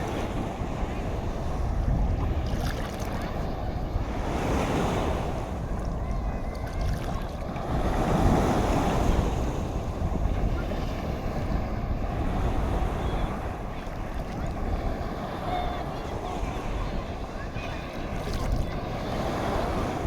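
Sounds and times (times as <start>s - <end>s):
sea waves washing in: 0.0s - 20.0s
wind buffeting microphone: 0.0s - 20.0s.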